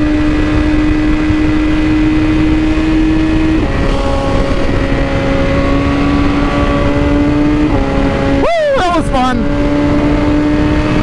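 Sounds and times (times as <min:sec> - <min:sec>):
motorcycle engine accelerating: 0:00.0 - 0:11.0
wind and road noise: 0:00.0 - 0:11.0.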